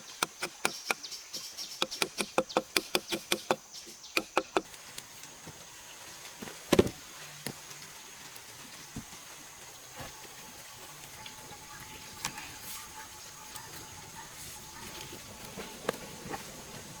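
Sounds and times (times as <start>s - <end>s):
high insect hum: 0.0s - 17.0s.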